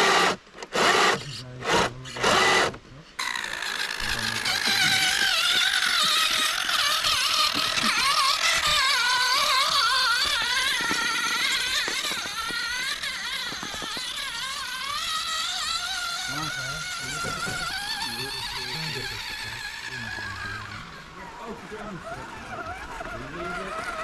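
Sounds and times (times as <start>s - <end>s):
electric motor and gearbox whining: 0.0s - 24.0s.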